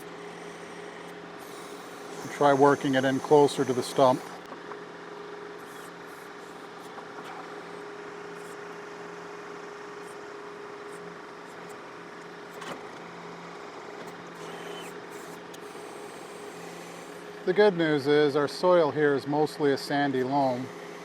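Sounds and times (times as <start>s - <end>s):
tractor diesel engine running: 0.0s - 18.0s
constant whine: 0.0s - 21.0s.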